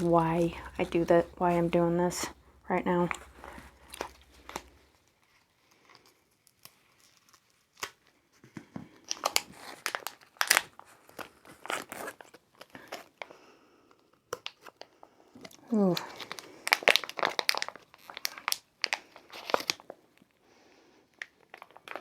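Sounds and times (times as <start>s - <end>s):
plastic packaging crinkling: 0.0s - 13.4s, 14.1s - 20.4s, 21.1s - 22.0s.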